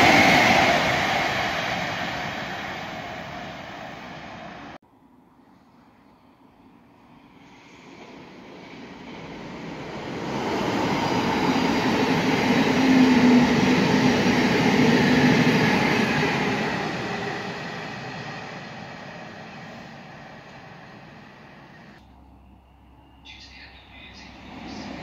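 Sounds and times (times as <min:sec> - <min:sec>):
passenger train passing: 0:00.0 - 0:04.8, 0:06.6 - 0:25.0.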